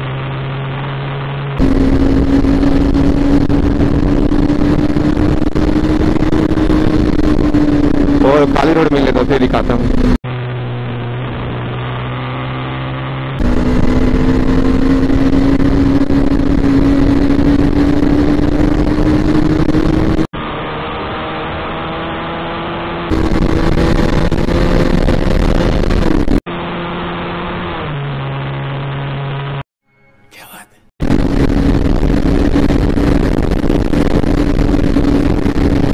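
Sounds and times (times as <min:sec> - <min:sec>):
motorcycle engine accelerating: 0:00.0 - 0:30.1, 0:31.0 - 0:35.9.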